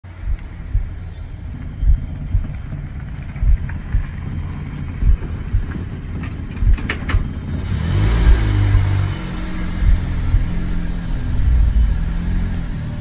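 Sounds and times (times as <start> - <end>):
vehicle engine running and revving: 0.0 - 13.0
low thumps: 0.1 - 13.0.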